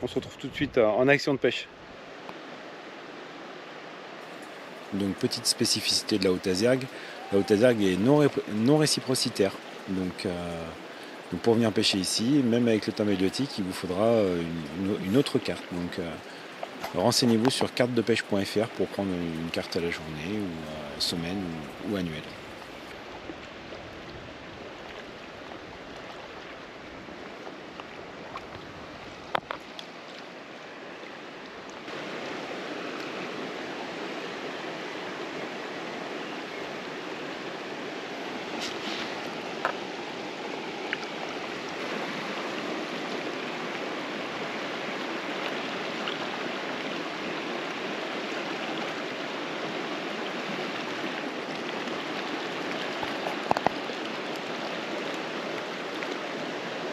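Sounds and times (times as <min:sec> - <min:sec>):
river water rushing over stones: 0:01.8 - 0:56.9.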